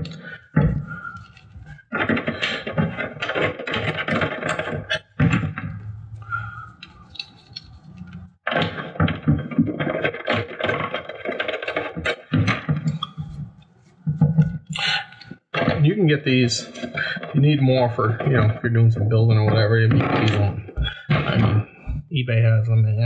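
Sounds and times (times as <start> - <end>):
plastic clicking and rustling: 0.0 - 16.0, 16.6 - 21.9.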